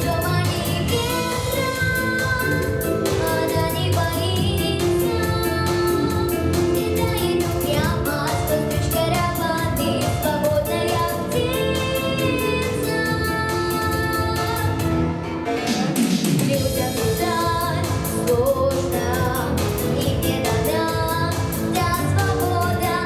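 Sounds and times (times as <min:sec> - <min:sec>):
backing track with steady beat: 0:00.0 - 0:23.0
person singing pop song: 0:00.0 - 0:23.0.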